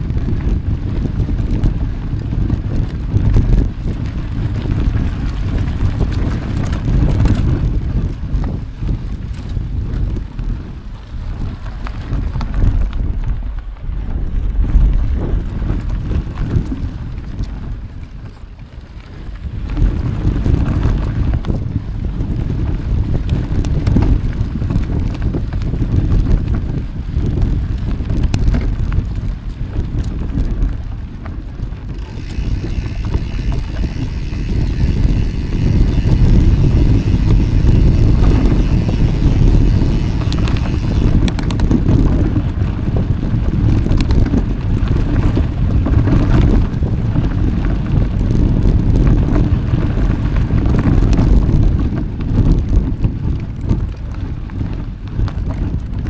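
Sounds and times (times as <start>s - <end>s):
low rumble of bike ride: 0.0s - 56.0s
wind buffeting the microphone: 0.0s - 56.0s.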